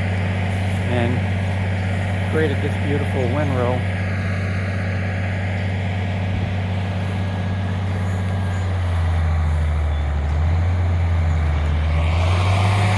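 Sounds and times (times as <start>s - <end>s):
tractor engine running under load: 0.0s - 12.9s.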